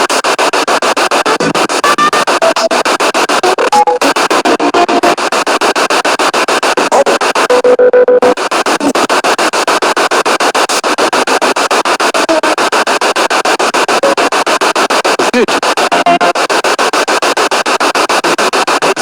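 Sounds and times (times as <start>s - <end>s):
pulsing radio static: 0.0s - 19.0s
steady radio tone: 0.0s - 19.0s.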